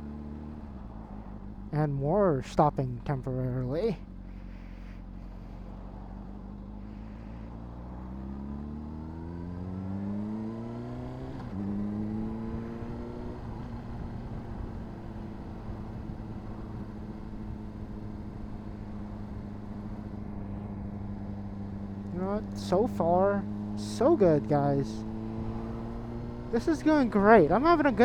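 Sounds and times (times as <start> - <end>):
motorcycle engine revving: 4.0 - 28.0.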